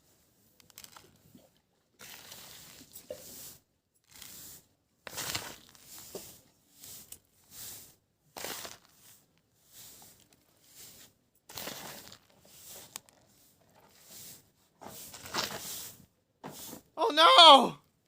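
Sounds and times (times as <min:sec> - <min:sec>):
rasping rustling hand strokes: 0:02.0 - 0:17.0.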